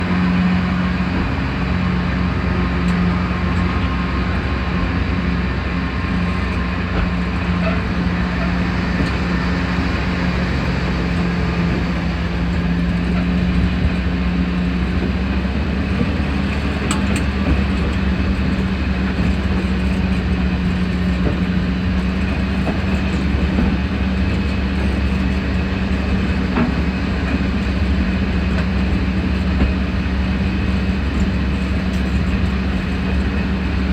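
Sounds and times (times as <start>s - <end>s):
diesel locomotive engine drone: 0.0s - 33.9s.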